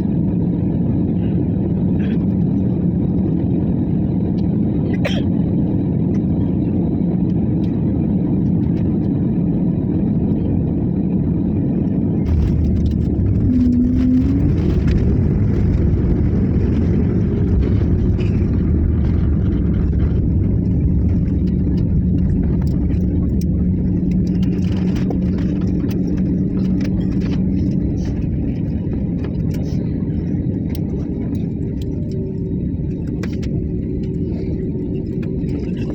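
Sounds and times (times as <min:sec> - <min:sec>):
aircraft low rumble: 0:00.0 - 0:35.9.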